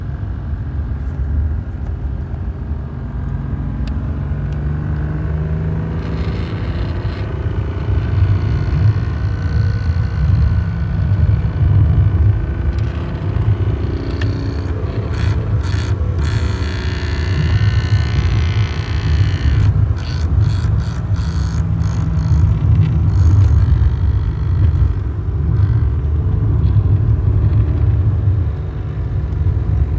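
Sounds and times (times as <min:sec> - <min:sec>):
car engine revving: 0:03.5 - 0:29.9
clutch rattle: 0:03.8 - 0:29.9.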